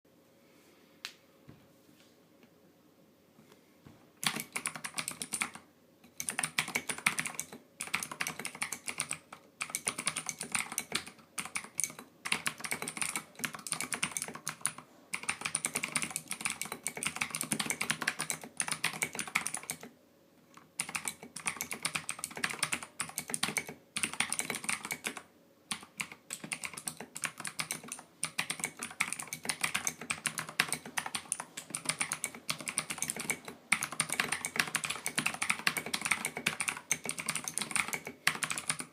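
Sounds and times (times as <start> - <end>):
typing on mechanical keyboard: 4.2 - 19.9, 20.6 - 38.9.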